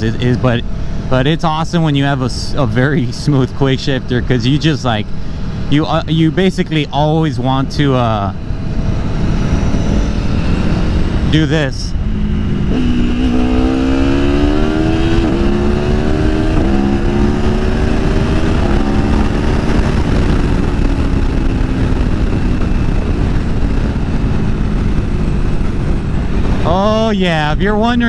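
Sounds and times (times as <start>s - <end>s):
motorcycle engine accelerating: 0.0s - 28.0s
wind over microphone: 2.3s - 28.0s.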